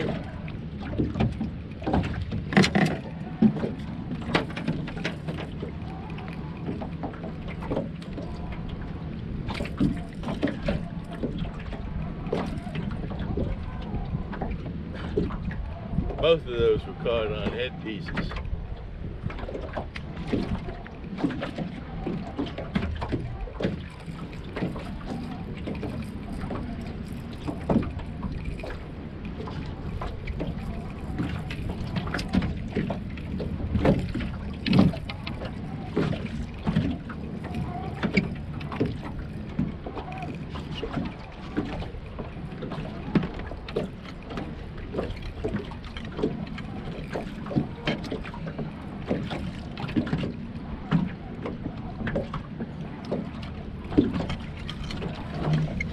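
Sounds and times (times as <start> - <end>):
knocks and clatter on boat: 0.0 - 55.9
steady low rumble: 0.0 - 55.9.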